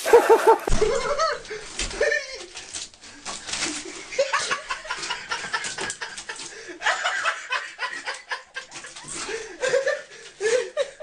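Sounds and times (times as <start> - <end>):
person laughing: 0.0 - 2.6, 3.8 - 11.0.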